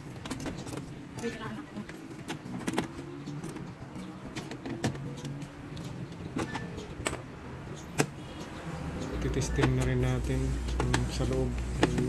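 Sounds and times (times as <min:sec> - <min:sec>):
sharp clicks and knocks: 0:00.0 - 0:12.0.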